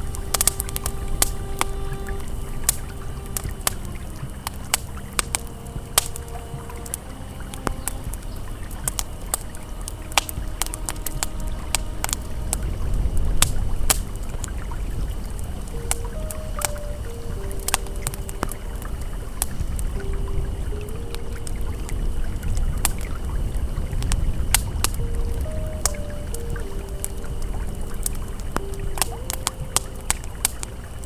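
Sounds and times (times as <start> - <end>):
campfire crackling and popping: 0.0 - 31.0
river flowing: 0.0 - 31.0
soft ambient music notes: 0.0 - 31.0.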